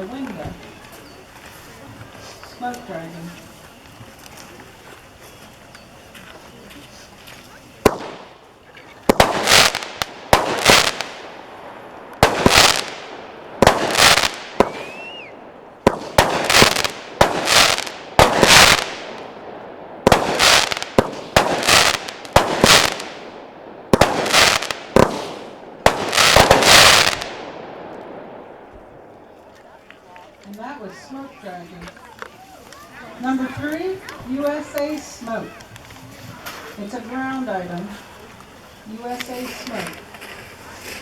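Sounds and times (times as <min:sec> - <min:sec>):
firework cake shots: 0:00.0 - 0:41.0
rushing hiss of fireworks: 0:00.0 - 0:41.0.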